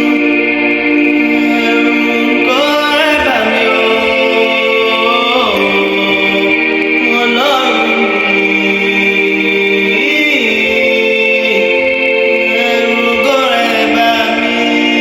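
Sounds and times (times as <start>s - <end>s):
worship song singing voices: 0.0s - 15.0s.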